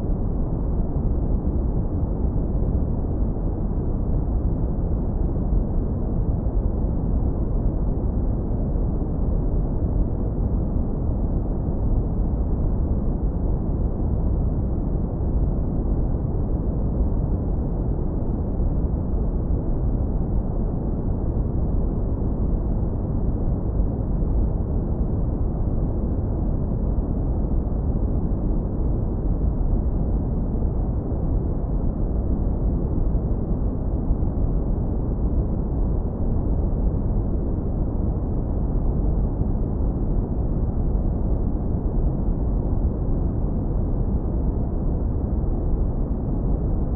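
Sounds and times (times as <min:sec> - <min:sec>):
low brown noise rumble: 0:00.0 - 0:46.9.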